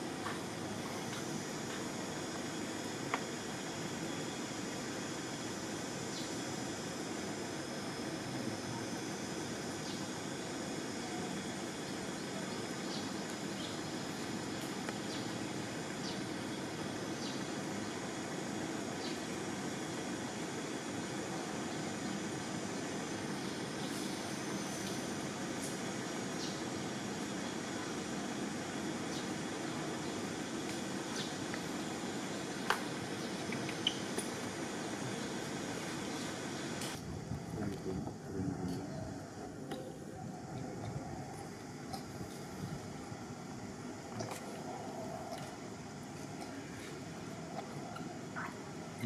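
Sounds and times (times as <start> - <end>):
continuous hiss: 0.0 - 49.0.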